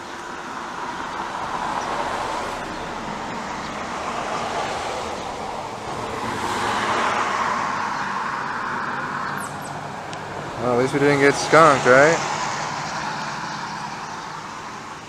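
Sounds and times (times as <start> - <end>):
road traffic noise: 0.0 - 15.0
vehicle passing: 0.0 - 15.0.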